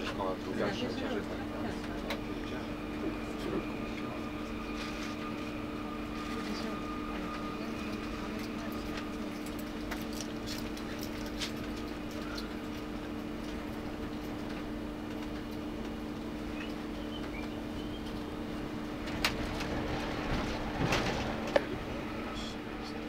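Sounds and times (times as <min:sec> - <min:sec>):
electric train interior drone: 0:00.0 - 0:23.0
rumbling wheel noise: 0:04.3 - 0:23.0.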